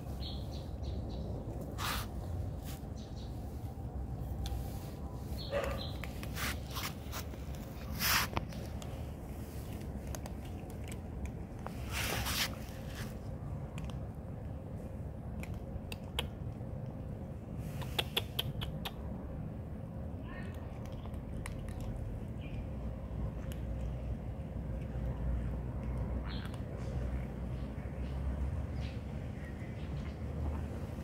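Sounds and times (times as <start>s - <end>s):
cats crunching dry kibble: 0.0s - 18.8s, 19.8s - 27.8s.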